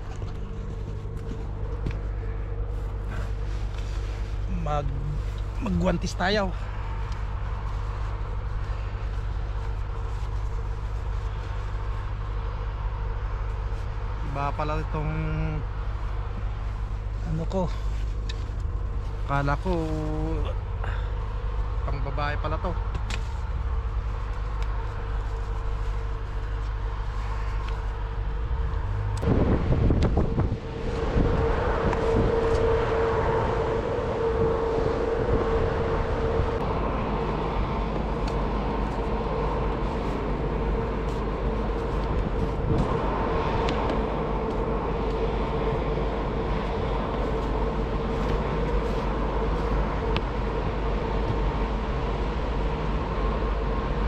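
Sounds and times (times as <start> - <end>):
motor whining over low rumble: 0.0 - 54.0.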